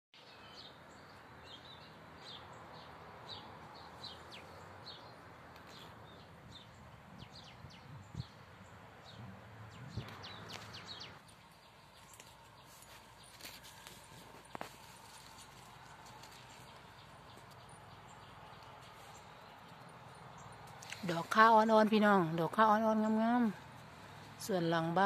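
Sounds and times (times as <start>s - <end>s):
outdoor background noise: 0.2s - 25.0s
small birds chirping: 0.2s - 25.0s.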